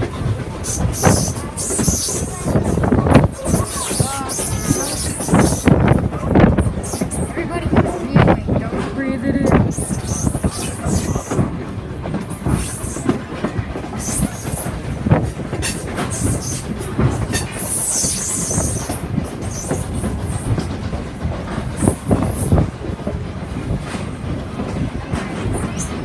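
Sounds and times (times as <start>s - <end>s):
train wheels knocking on rails: 0.0s - 26.0s.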